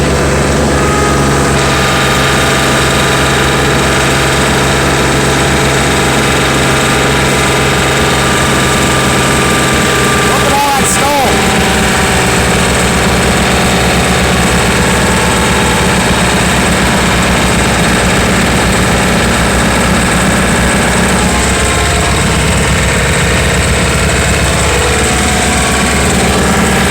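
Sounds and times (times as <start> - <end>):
diesel tractor engine running: 0.0 - 26.9.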